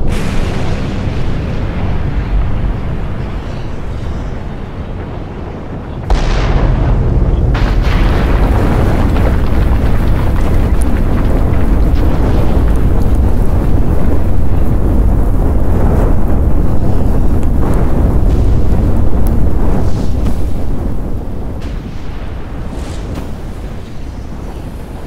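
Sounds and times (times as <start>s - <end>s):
deep volcanic rumbling: 0.0s - 25.0s
explosion blast: 0.0s - 25.0s.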